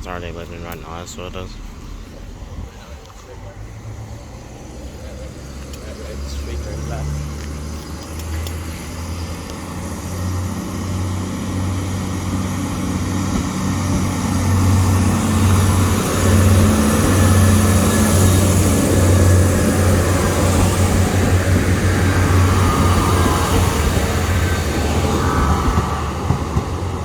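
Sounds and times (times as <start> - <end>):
diesel train engine hum: 0.0 - 27.0
rail and wheel noise: 0.0 - 27.0.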